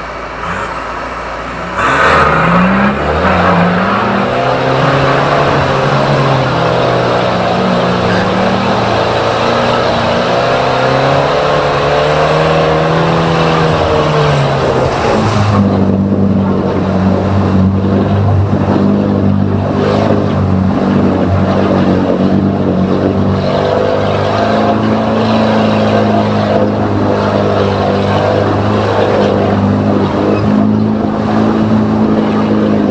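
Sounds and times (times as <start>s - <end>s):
engine revving hard: 0.0s - 32.9s.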